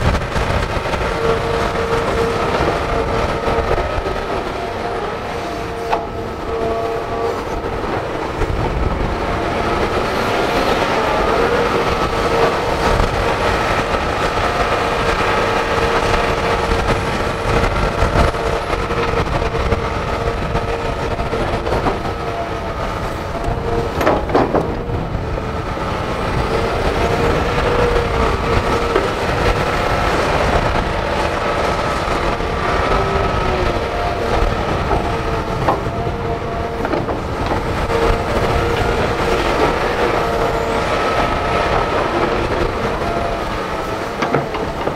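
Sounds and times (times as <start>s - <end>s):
excavator diesel engine digging: 0.0s - 44.9s
hydraulic whine: 0.0s - 44.9s.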